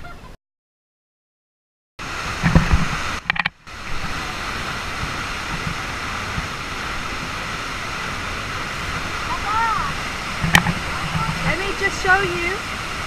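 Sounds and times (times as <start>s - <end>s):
waterfall rushing: 2.0s - 13.0s.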